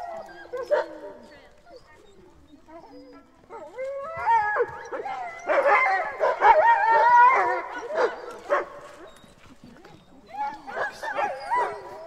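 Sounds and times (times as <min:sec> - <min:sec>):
dogs howling: 0:00.0 - 0:09.3, 0:10.1 - 0:12.0.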